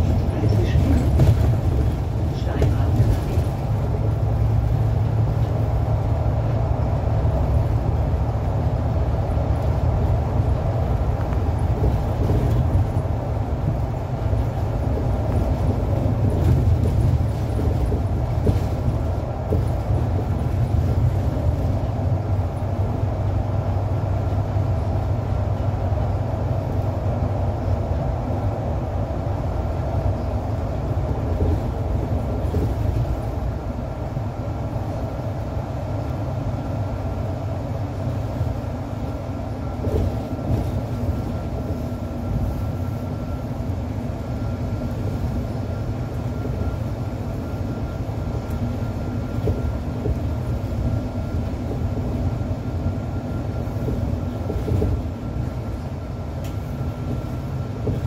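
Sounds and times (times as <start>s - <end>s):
bus engine low hum: 0.0s - 58.0s
tyre and road noise: 0.0s - 58.0s.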